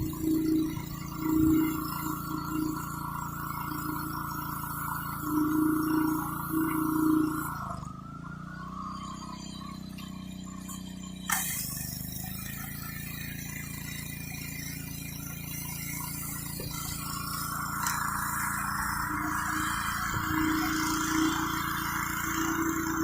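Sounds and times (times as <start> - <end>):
high-pressure water spray hissing: 0.0 - 7.8, 10.2 - 23.0
pressure washer engine running: 0.0 - 23.0.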